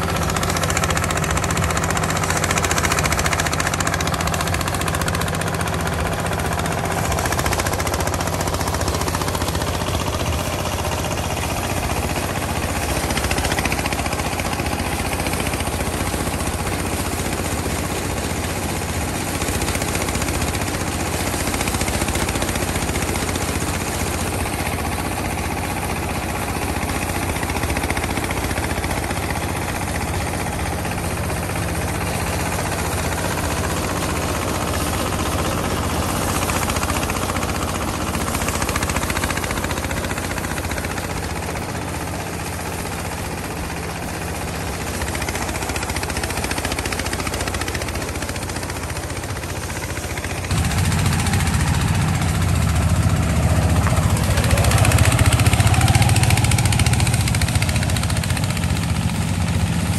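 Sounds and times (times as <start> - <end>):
diesel engine running: 0.0 - 59.9
threshing drum spinning: 0.0 - 59.9.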